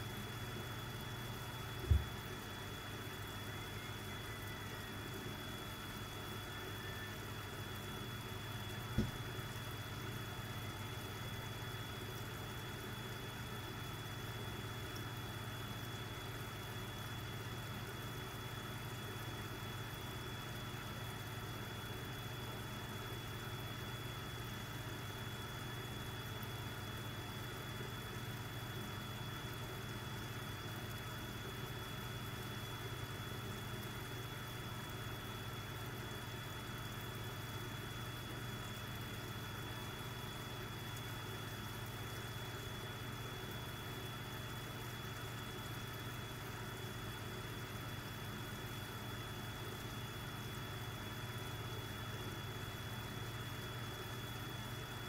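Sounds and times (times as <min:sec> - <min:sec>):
aquarium equipment humming: 0:00.0 - 0:55.0.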